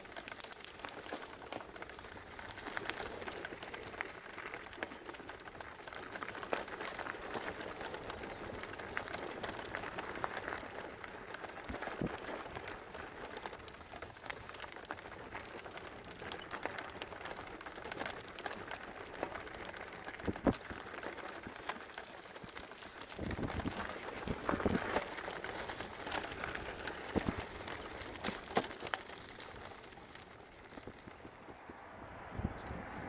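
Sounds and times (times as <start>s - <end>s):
bicycle tyres crunching gravel: 0.0s - 33.0s.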